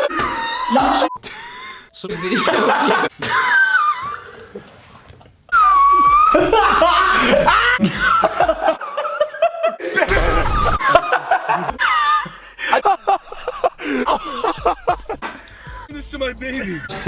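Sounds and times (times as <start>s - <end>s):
men wheeze-laughing: 0.0s - 15.9s.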